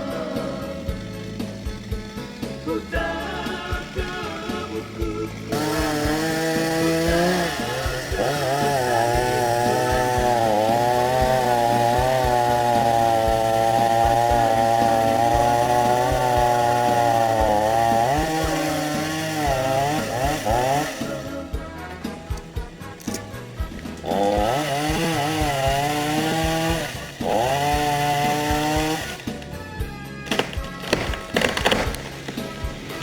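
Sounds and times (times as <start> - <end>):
chainsaw cutting tree: 0.0 - 33.0.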